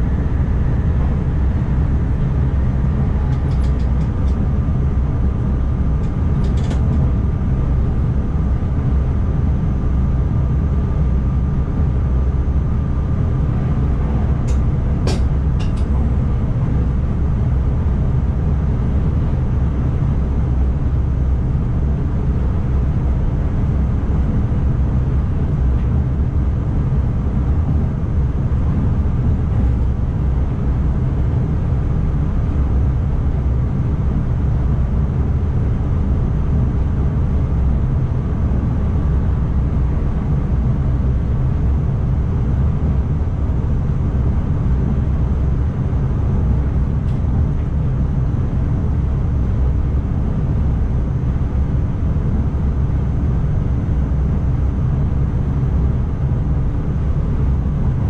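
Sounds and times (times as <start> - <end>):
train wheels rumbling on rail: 0.0 - 52.5.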